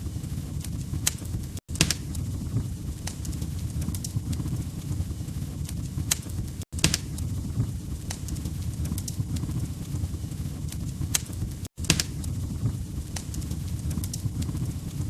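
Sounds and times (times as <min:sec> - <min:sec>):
fire pops and snaps: 0:00.0 - 0:15.0
low rumble of flame: 0:00.0 - 0:15.0.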